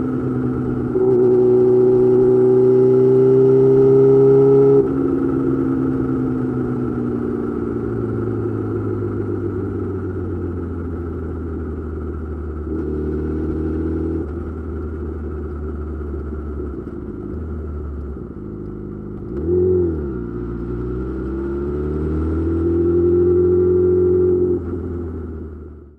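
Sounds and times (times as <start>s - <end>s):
motorcycle engine revving: 0.0s - 25.7s.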